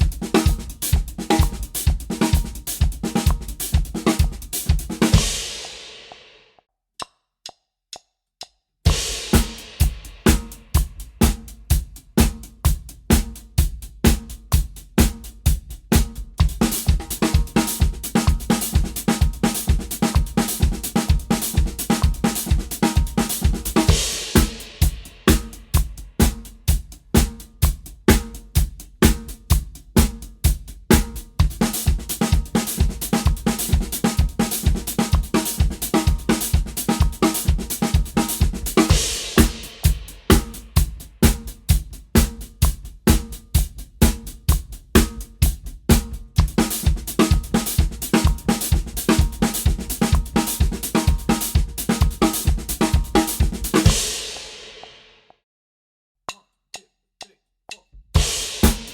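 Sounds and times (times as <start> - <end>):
drum kit groove: 0.0 - 6.5, 8.8 - 55.2, 57.7 - 58.9.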